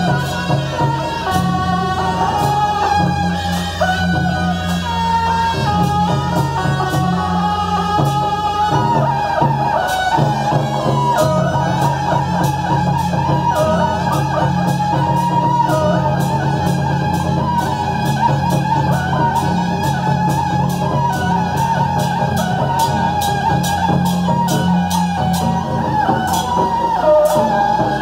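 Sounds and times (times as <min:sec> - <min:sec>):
loud music with drum beat: 0:00.0 - 0:28.0.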